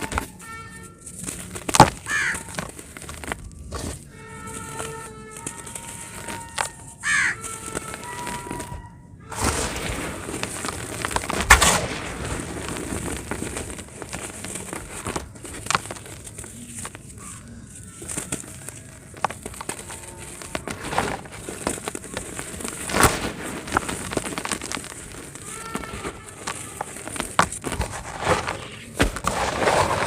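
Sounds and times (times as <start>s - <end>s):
cement chunks crunching: 0.0s - 30.0s.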